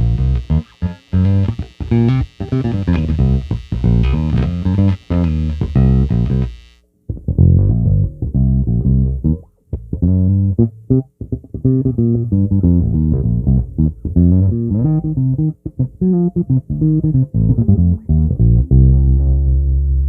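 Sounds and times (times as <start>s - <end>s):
plucked bass guitar notes: 0.0s - 20.0s.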